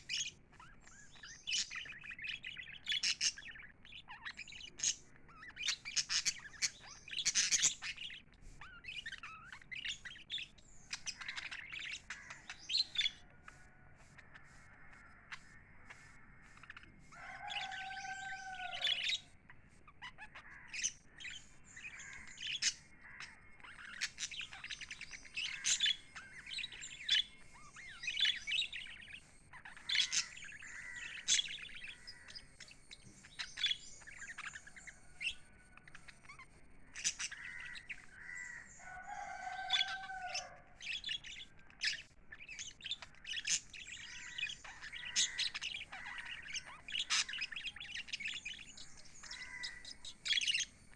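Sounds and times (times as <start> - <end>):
budgerigars chirping and chattering: 0.0 - 50.9.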